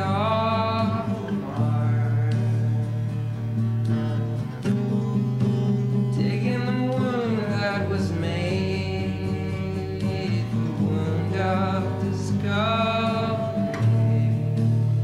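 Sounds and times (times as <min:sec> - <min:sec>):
song with guitar and singing: 0:00.0 - 0:15.0.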